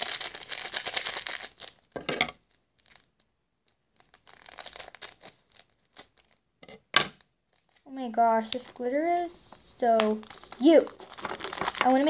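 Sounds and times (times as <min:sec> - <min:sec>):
plastic packet crinkling and tearing: 0:00.0 - 0:06.4, 0:07.2 - 0:12.0.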